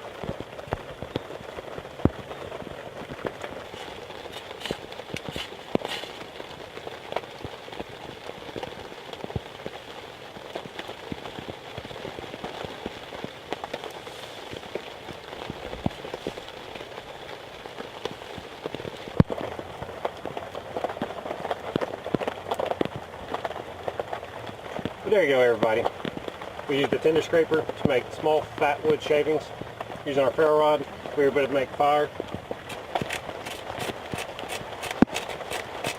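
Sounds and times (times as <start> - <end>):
small fire crackling: 0.0 - 35.9.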